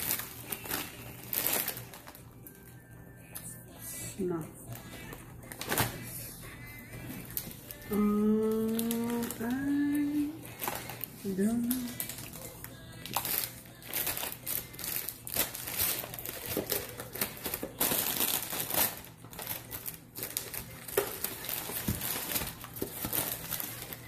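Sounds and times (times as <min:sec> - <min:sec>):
plastic snack bag crinkling: 0:00.0 - 0:02.8, 0:04.7 - 0:24.0.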